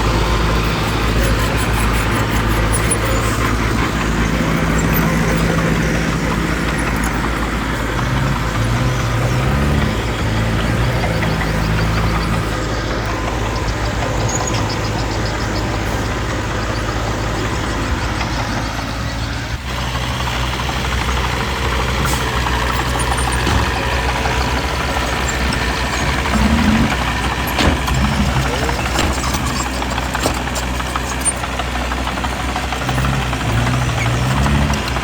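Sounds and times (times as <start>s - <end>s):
heavy machinery diesel engines: 0.0s - 35.0s.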